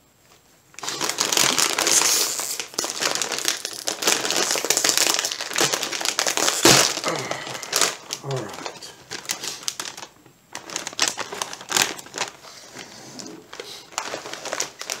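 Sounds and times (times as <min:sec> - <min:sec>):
chip bag crinkling: 0:00.7 - 0:15.0.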